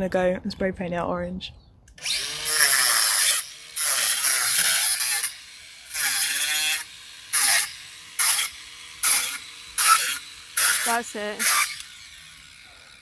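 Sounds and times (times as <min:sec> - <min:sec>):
angle grinder cutting wire mesh: 0:02.0 - 0:13.0.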